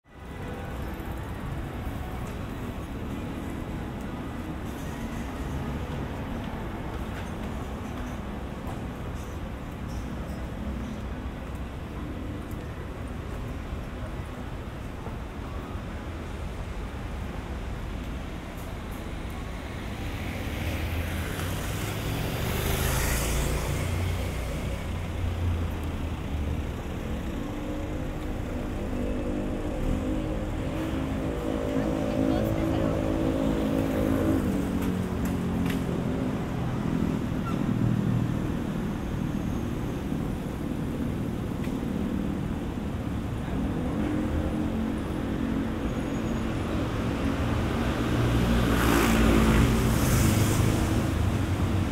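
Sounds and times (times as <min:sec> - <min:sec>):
road traffic rumble: 0:00.1 - 0:51.9.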